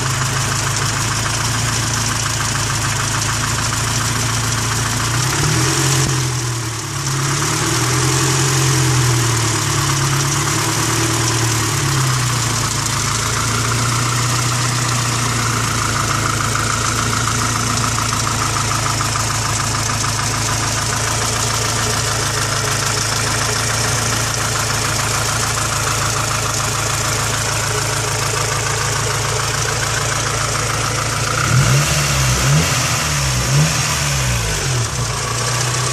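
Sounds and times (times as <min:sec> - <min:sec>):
engine idling and revving: 0:00.0 - 0:35.9
engine knocking rattle: 0:00.0 - 0:35.9.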